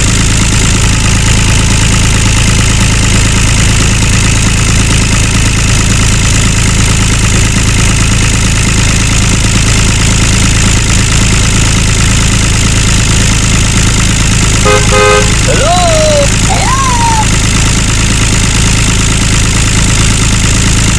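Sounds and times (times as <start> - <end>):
model tractor engine drone: 0.0 - 20.9.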